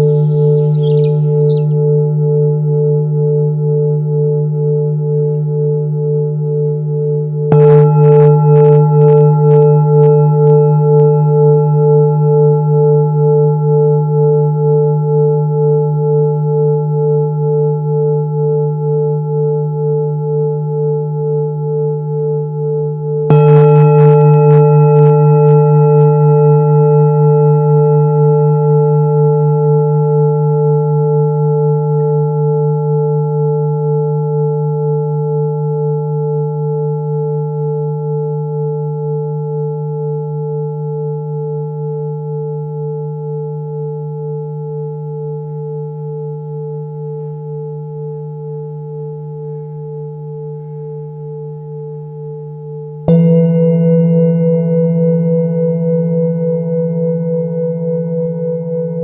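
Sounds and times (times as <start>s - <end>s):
singing bowl ringing: 0.0s - 59.0s.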